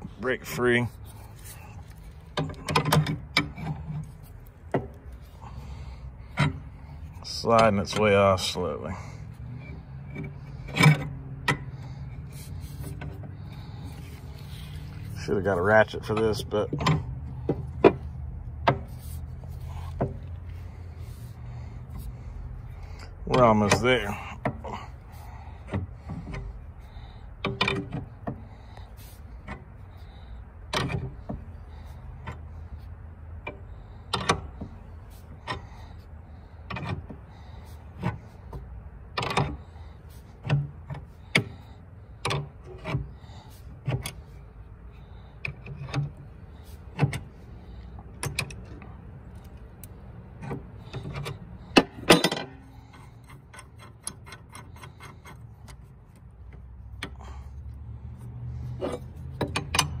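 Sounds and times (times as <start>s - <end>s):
wrench clicking and clanking on metal: 0.0s - 5.6s, 6.2s - 32.6s, 33.2s - 60.0s.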